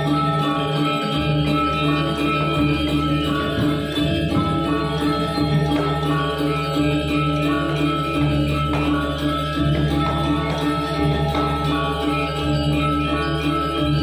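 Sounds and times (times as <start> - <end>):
gamelan metallophones ringing: 0.0 - 14.0.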